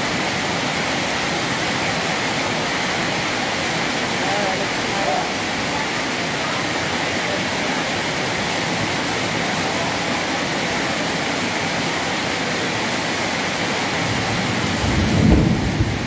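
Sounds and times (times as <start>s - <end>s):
heavy rain on a flooded street: 0.0s - 16.0s.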